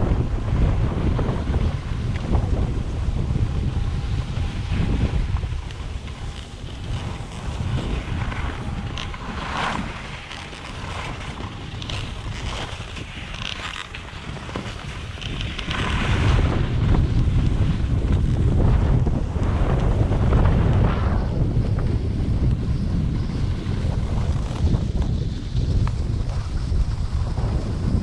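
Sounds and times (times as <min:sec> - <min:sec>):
skis carving on packed snow: 0:00.0 - 0:28.0
wind buffeting microphone: 0:00.0 - 0:28.0.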